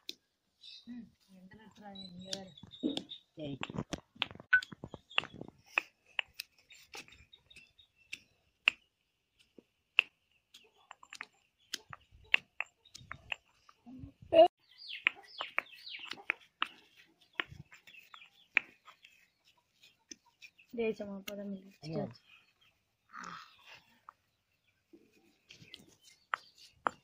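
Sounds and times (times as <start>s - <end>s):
birds chirping: 0.5s - 27.0s.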